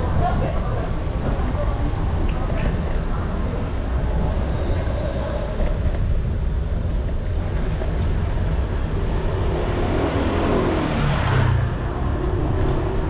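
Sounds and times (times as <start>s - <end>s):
electric kickboard rumbling over paving: 0.0s - 13.0s
wind on microphone: 0.0s - 13.0s.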